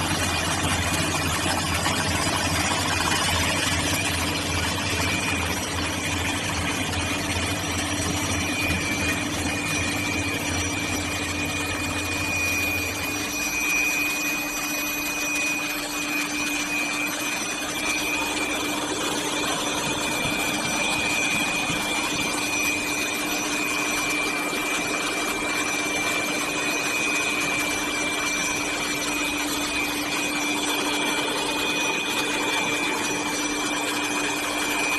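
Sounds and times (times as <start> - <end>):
grinding machine whine: 0.0 - 34.9.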